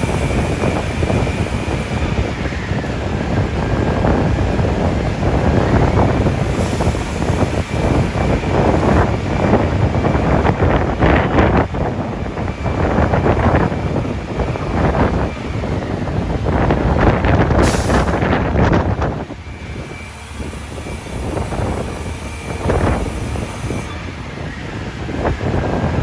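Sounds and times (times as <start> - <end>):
gusty wind buffeting microphone: 0.0 - 26.0
vehicle engine noise: 0.0 - 26.0.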